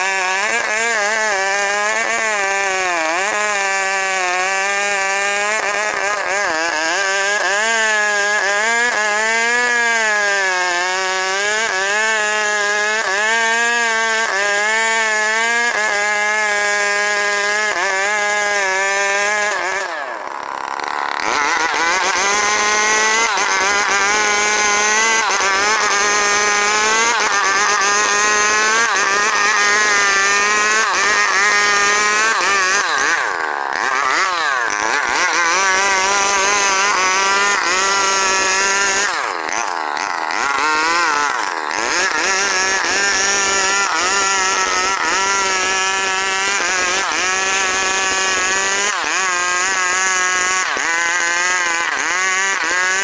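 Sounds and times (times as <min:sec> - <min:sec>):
chainsaw cutting a log: 0:00.0 - 0:53.0.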